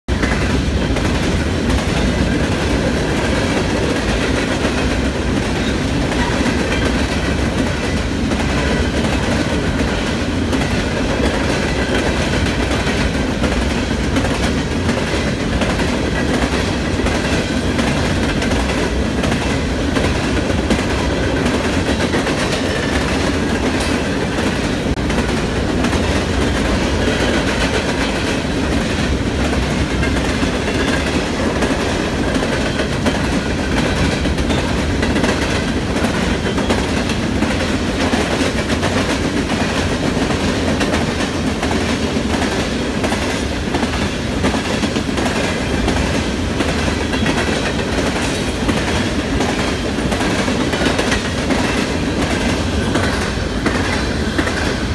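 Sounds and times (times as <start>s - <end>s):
freight train wheels rumbling on rails: 0.1s - 54.9s.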